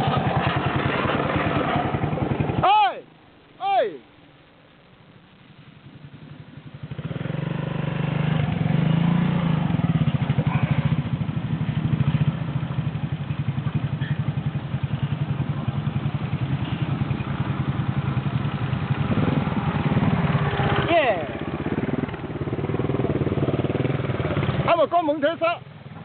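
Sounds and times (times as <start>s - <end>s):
motorcycle engine running: 0.0s - 3.6s, 5.0s - 26.0s.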